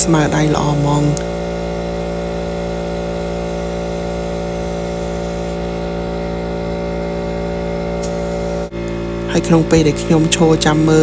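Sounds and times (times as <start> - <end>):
spray gun hiss: 0.0 - 10.4
air compressor motor hum: 0.0 - 11.0.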